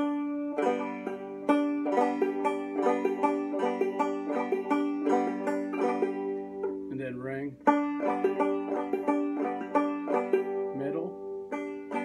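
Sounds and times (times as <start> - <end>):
banjo plucked clawhammer style: 0.0 - 12.0.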